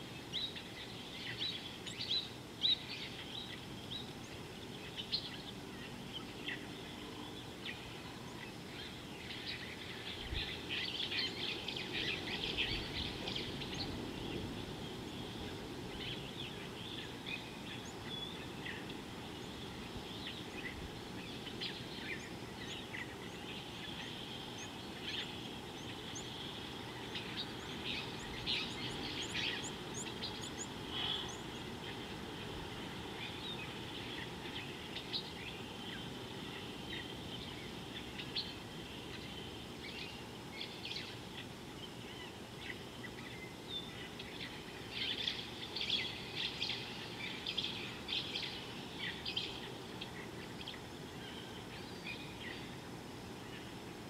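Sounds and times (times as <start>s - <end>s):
background noise: 0.0s - 54.0s
birds chirping: 0.0s - 54.0s.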